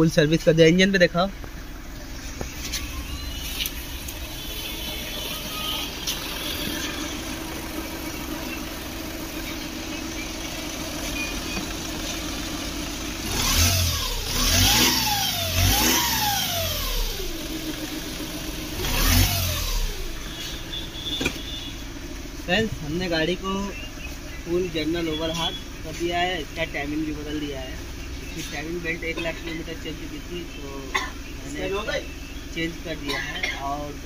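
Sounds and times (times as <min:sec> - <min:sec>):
diesel engine idling and revving: 0:00.0 - 0:34.0.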